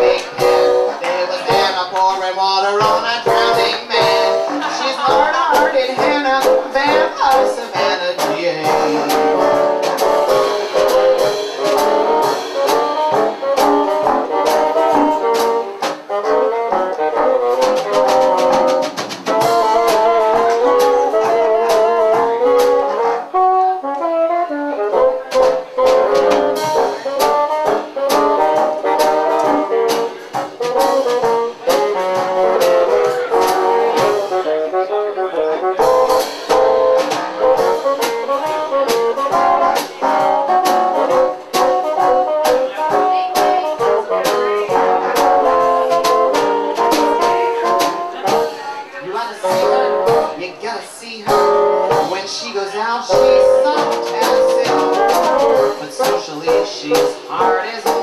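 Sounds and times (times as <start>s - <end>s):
bassoons playing jazz: 0.0s - 58.0s
drum kit beat: 0.0s - 58.0s.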